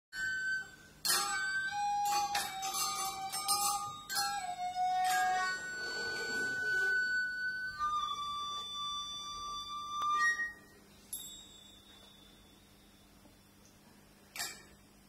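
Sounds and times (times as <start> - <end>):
long held musical tones: 0.2 - 13.5.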